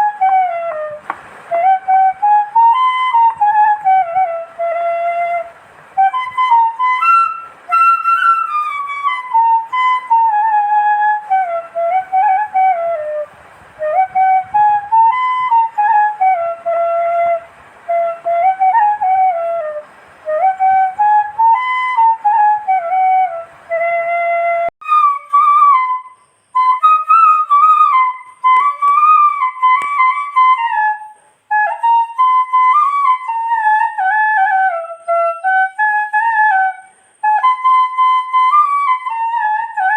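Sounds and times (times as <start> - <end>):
solo flute melody: 0.0 - 39.9.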